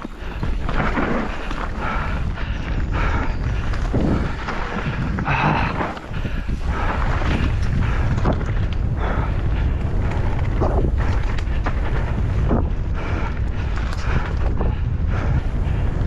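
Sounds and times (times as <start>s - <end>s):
bike rattling and knocking: 0.0s - 16.0s
wind buffeting microphone: 0.0s - 16.0s.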